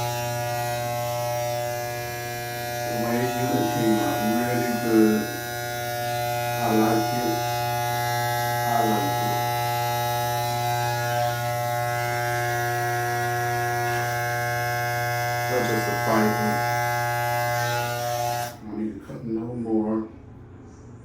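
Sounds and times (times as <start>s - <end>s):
electric hair clippers buzzing: 0.0s - 18.6s.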